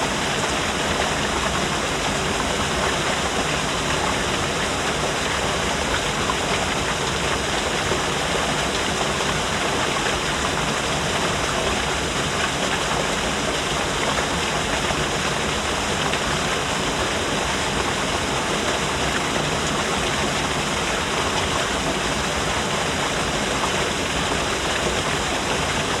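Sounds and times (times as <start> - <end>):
waterfall splashing: 0.0 - 26.0.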